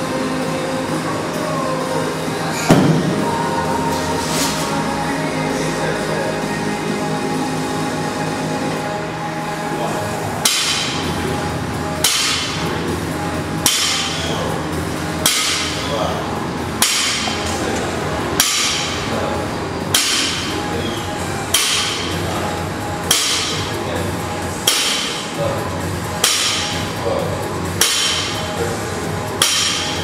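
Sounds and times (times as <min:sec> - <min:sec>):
background music: 0:00.0 - 0:30.0.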